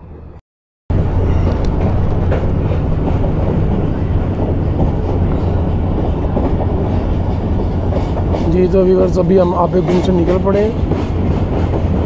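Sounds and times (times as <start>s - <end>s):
train wheels rumbling on rails: 0.9s - 12.0s.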